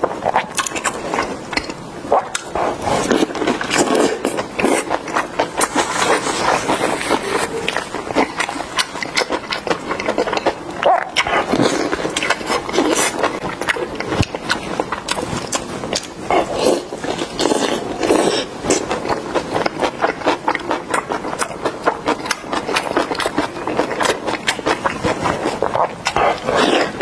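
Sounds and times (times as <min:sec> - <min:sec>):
wet chewing and lip smacking: 0:00.1 - 0:27.0.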